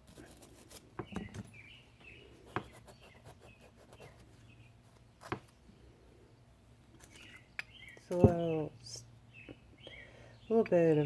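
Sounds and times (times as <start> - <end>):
faint birds chirping: 0.1 - 11.0.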